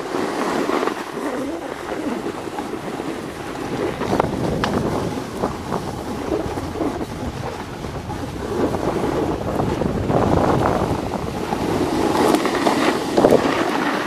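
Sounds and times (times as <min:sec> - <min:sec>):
sliding on packed snow: 0:00.0 - 0:14.0
wind buffeting microphone: 0:01.0 - 0:14.0.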